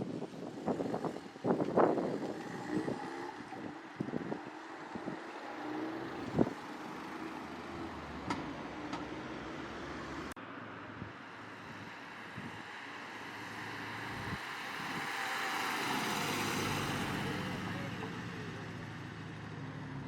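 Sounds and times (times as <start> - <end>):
car approaching: 0.0 - 20.0
car engines and tyre noise: 0.0 - 20.0.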